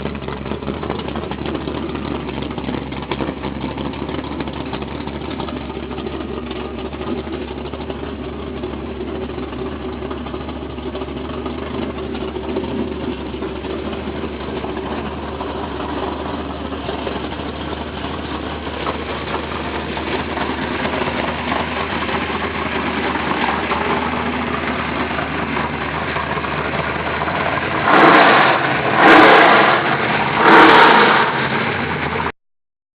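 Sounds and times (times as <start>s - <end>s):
car engine idling and revving: 0.0s - 32.3s.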